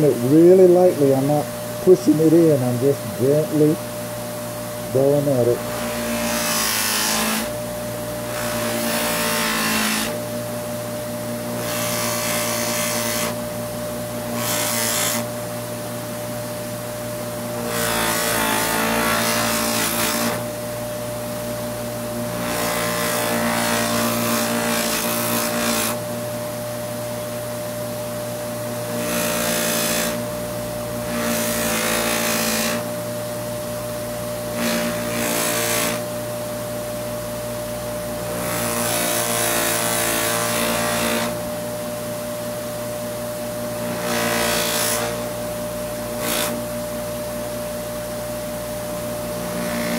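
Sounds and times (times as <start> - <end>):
bench buffer motor humming: 0.0 - 47.0, 48.8 - 49.9.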